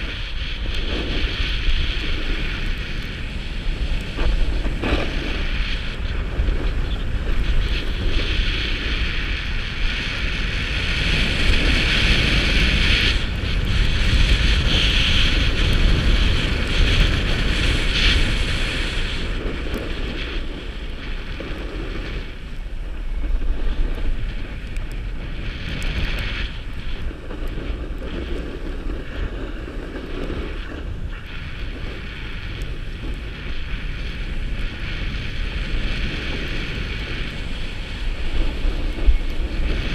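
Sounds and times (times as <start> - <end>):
skis scraping on packed snow: 0.0 - 39.9
wind rushing over microphone: 0.0 - 39.9.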